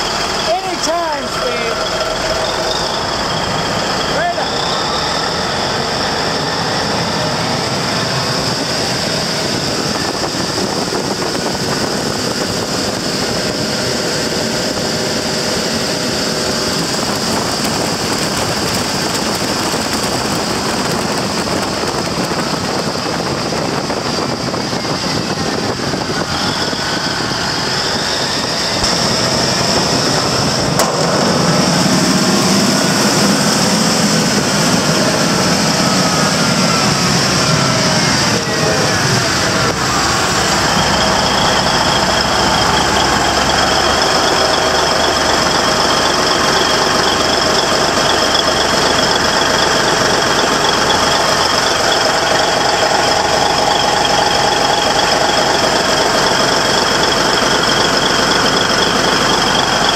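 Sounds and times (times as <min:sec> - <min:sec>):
diesel engine running: 0:00.0 - 0:59.9
high whine: 0:00.0 - 0:59.9.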